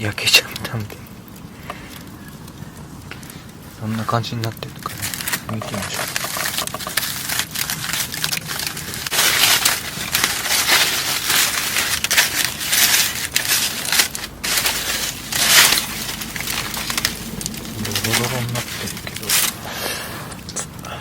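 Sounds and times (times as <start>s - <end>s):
wrapping crinkling and crushing: 0.0s - 20.9s.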